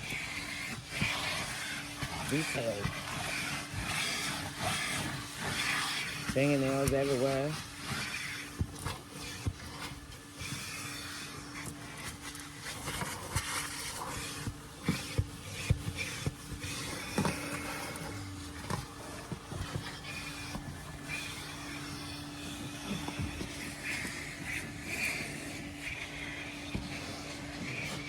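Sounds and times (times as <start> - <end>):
air rushing through hose: 0.0 - 28.0
vacuum running with hum: 0.0 - 28.0.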